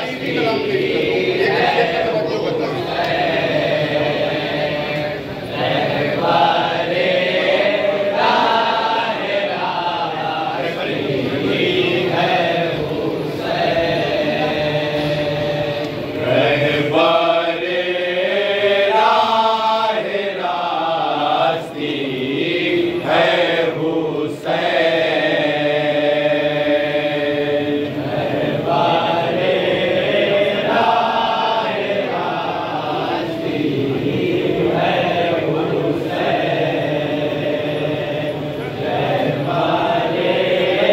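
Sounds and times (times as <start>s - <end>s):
men chanting a lament: 0.0s - 40.9s.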